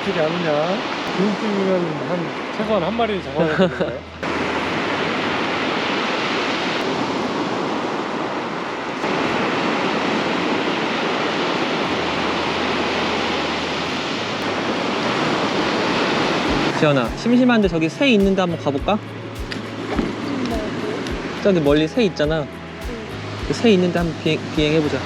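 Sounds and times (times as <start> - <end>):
ocean surf breaking on beach: 0.0 - 25.0.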